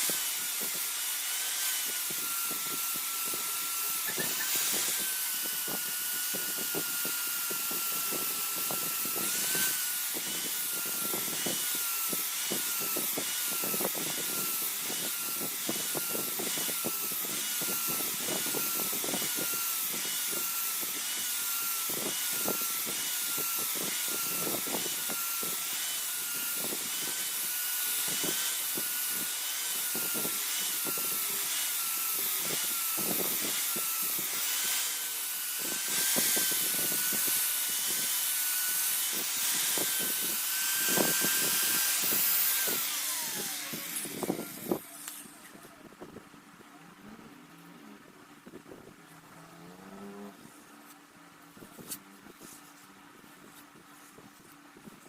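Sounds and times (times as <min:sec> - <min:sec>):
blade grinding and scraping: 0:00.0 - 0:45.8
electric grinder whining: 0:00.0 - 0:45.8.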